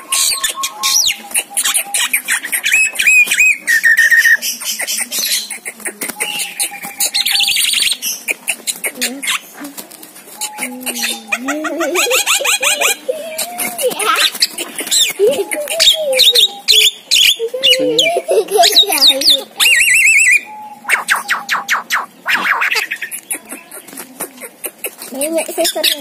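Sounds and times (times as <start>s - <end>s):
bird calling with clicks and whistles: 0.0s - 9.6s, 12.0s - 26.0s.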